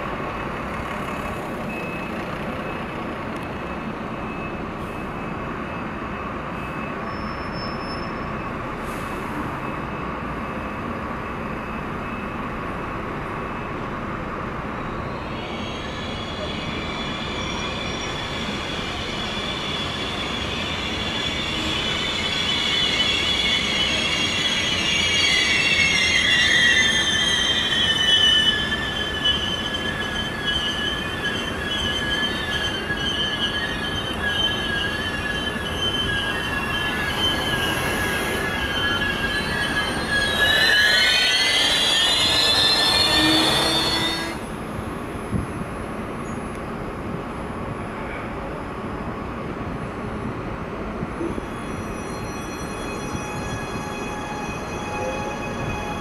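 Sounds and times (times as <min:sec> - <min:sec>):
train brakes squealing: 0:00.4 - 0:45.6, 0:51.2 - 0:56.0
train rumbling: 0:08.2 - 0:56.0.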